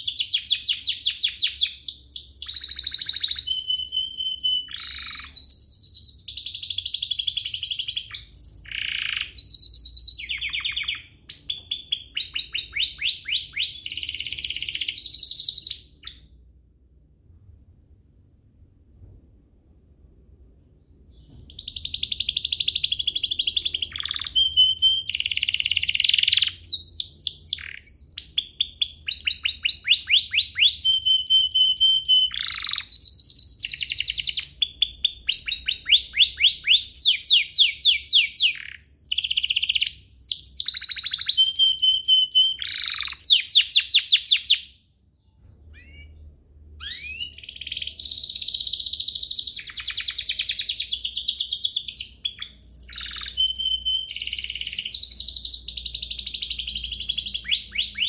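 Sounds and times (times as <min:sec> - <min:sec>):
canary singing trills: 0:00.0 - 0:16.4, 0:21.0 - 0:58.0.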